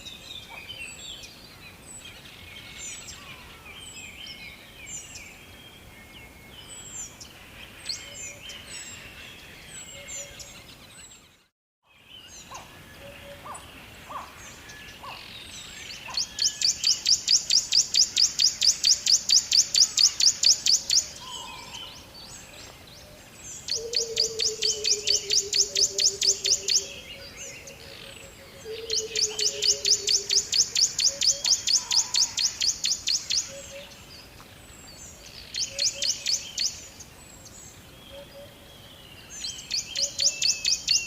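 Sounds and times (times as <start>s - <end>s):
songbirds chirping and whistling: 0.0s - 41.0s.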